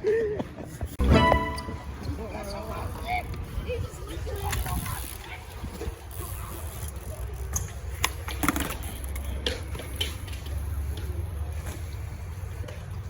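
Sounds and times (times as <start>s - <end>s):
bike wheels rolling on concrete: 1.7s - 13.0s.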